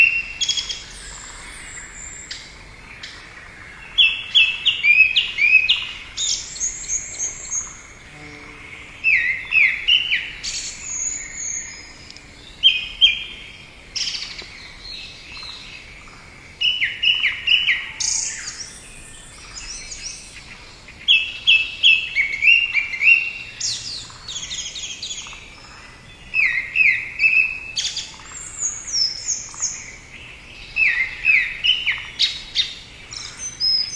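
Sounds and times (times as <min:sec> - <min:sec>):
light background hiss: 0:00.0 - 0:33.9
small birds chirping: 0:00.0 - 0:33.9.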